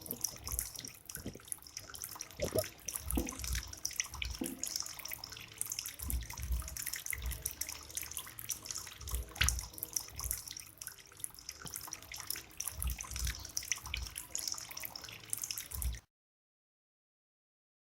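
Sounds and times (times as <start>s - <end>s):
fountain water trickling into basin: 0.0s - 16.1s.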